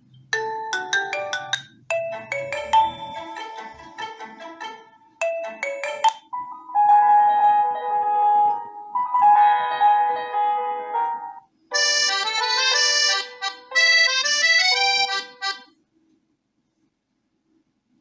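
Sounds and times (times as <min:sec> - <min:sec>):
tablet ringtone melodies: 0:00.3 - 0:15.7.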